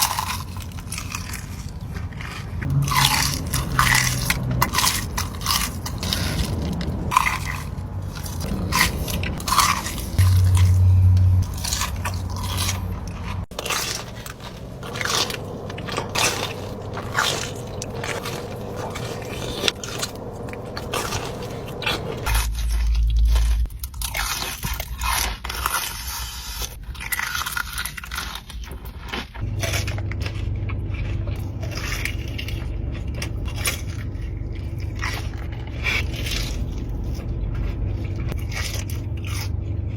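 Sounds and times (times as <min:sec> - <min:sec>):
low rumble: 0:00.0 - 0:24.5, 0:29.4 - 0:39.9
crunchy food chewing: 0:00.0 - 0:39.9
wet chewing: 0:00.0 - 0:39.9.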